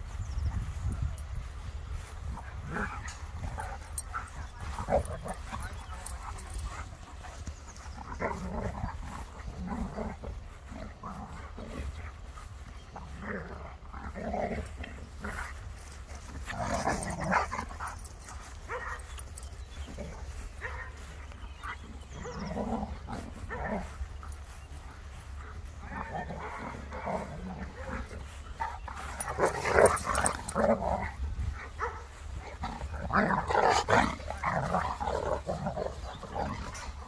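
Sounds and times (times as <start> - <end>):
dogs growling: 2.0 - 37.0.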